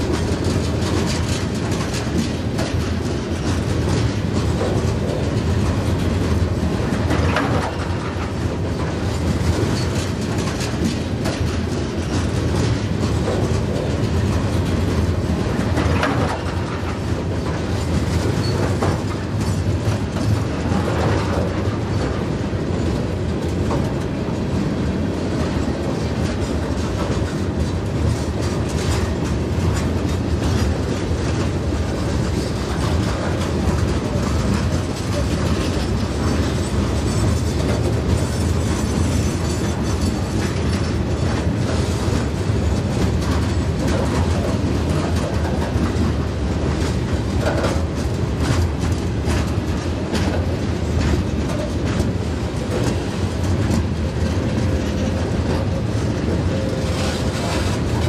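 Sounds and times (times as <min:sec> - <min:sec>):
freight train rumbling past: 0:00.0 - 0:58.0
wheels clicking over rail joints: 0:00.0 - 0:58.0.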